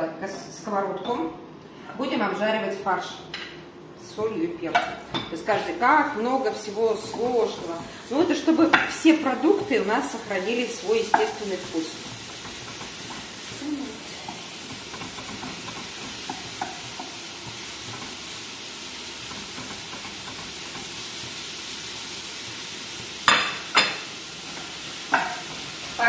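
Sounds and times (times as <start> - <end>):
meat sizzling in a frying pan: 4.9 - 26.0.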